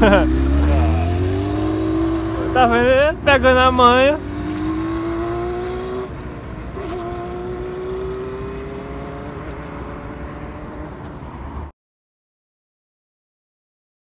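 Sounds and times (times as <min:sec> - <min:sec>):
motorcycle engine accelerating: 0:00.0 - 0:11.7.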